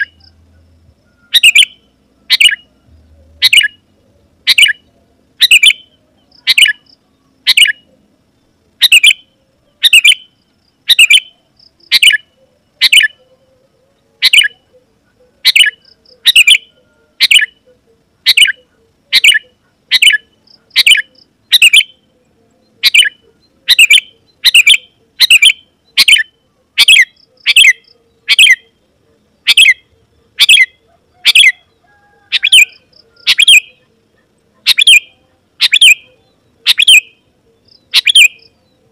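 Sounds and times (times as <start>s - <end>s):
bird calling: 0.0s - 38.9s.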